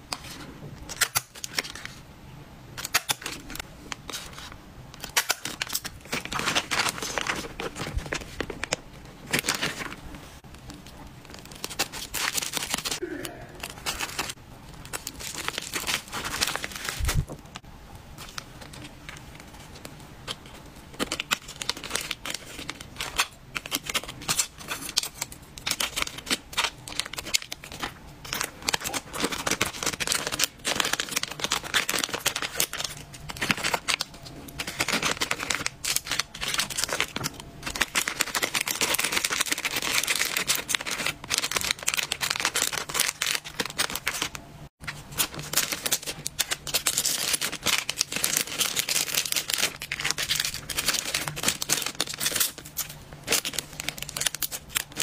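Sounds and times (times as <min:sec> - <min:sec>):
plastic packaging crinkling: 0:02.8 - 0:55.0.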